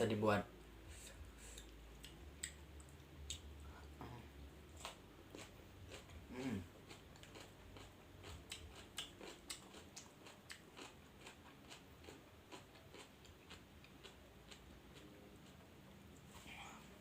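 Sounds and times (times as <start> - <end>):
chewing with crisp crunches: 1.4 - 15.8.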